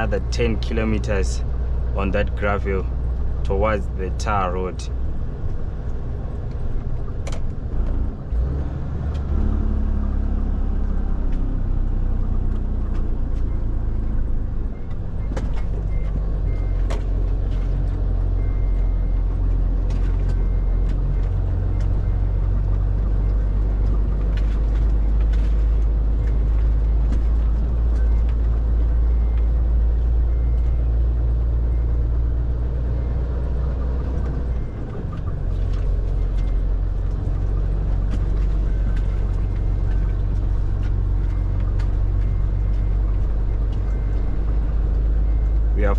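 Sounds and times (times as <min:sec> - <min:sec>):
truck diesel engine droning: 0:00.0 - 0:45.9.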